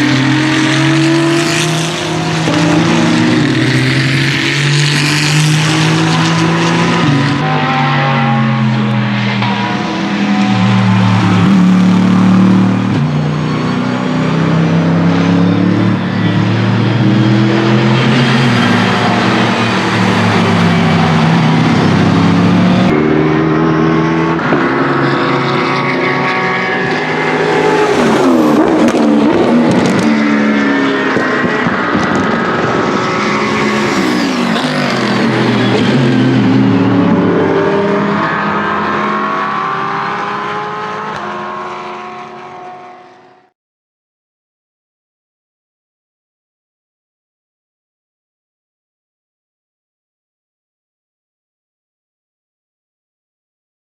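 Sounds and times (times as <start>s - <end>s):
racing car engines passing by: 0.0s - 43.4s.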